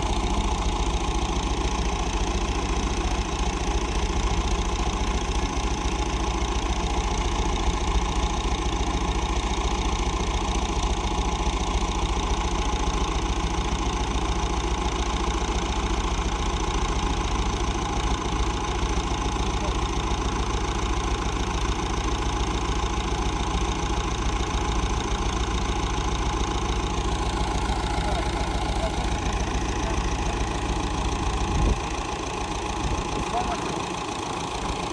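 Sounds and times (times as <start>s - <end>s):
engine-driven machine humming: 0.0s - 34.9s.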